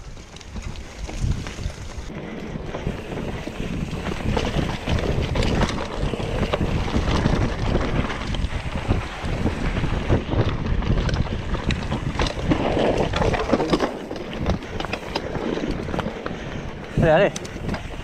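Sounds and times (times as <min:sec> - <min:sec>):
bike rattling over rough ground: 0:00.0 - 0:18.0
bike tyres on dirt: 0:00.0 - 0:18.0
wind buffeting microphone: 0:00.0 - 0:18.0.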